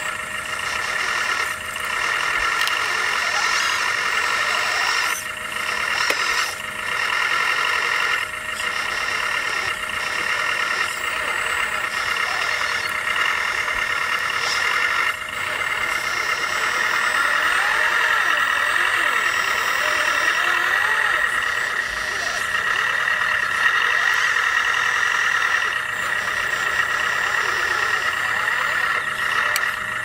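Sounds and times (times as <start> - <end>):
whine of electric motors: 0.0 - 30.0.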